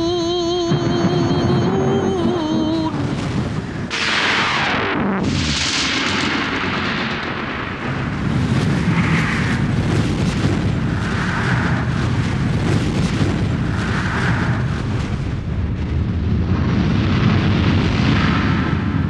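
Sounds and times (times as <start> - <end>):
loud steady rumble: 0.0 - 19.0.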